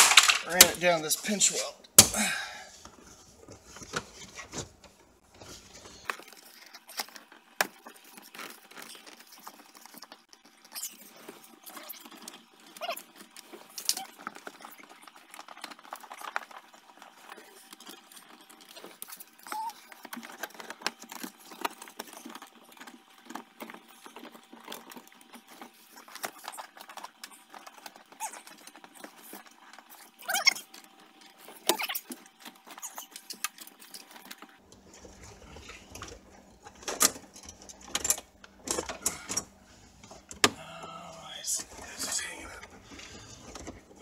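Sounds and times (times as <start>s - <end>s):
wiring clicking and rattling: 0.0s - 2.0s, 3.7s - 40.7s.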